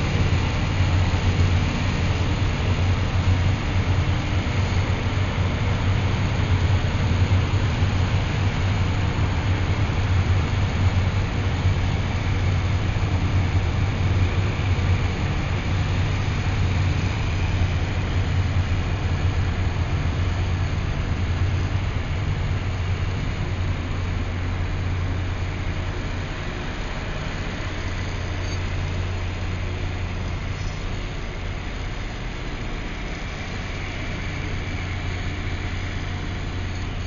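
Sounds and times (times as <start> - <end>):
train passing with rumble: 0.0 - 37.0.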